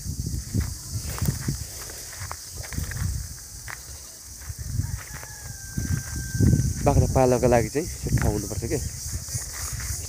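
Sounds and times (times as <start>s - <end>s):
footsteps on grass: 0.2s - 10.0s.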